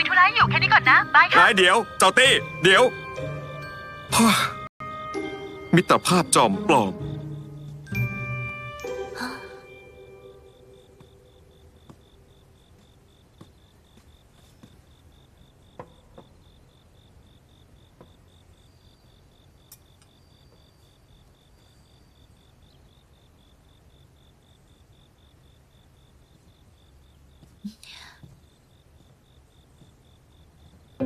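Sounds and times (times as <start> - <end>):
faint crickets chirping: 0.0 - 31.0.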